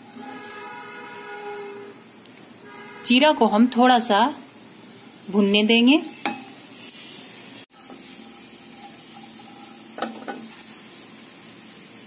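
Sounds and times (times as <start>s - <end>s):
seeds sizzling in hot fat: 0.0s - 2.2s, 3.8s - 12.0s.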